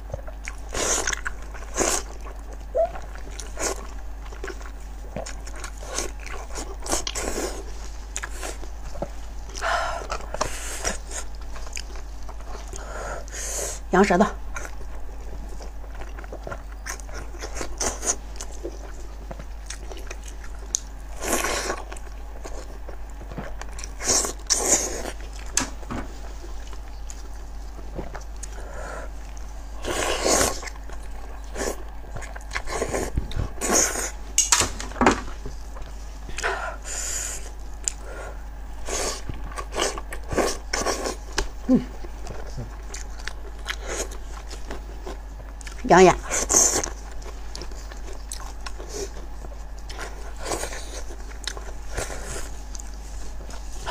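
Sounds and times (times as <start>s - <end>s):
person chewing with wet smacking: 0.0s - 13.4s, 14.0s - 34.2s, 37.3s - 53.9s.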